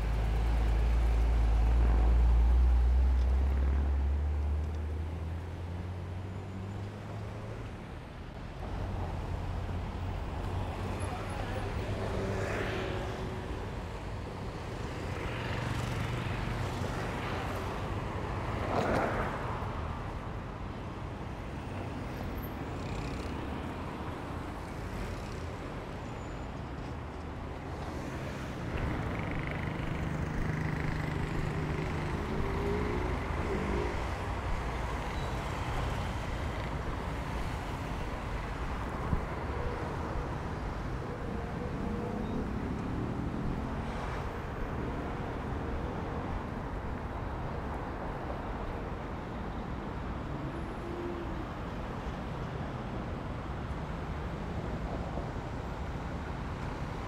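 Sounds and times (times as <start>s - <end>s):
cars passing: 8.6s - 57.0s.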